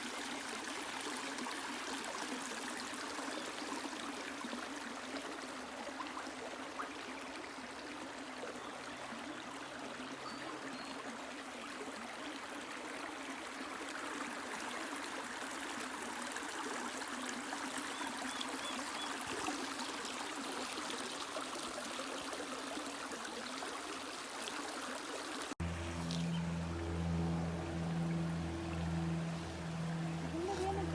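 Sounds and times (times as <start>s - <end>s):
stream water flowing: 0.0s - 30.9s.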